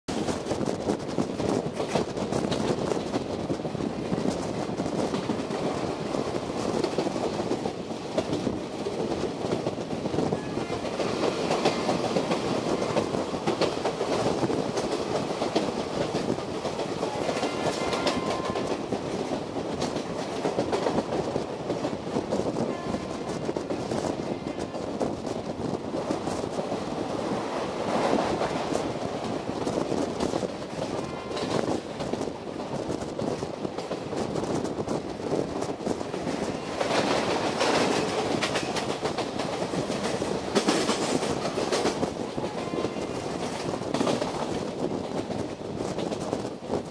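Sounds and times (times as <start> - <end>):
train wheels clattering over rail joints: 0.1 - 26.9, 27.8 - 46.9.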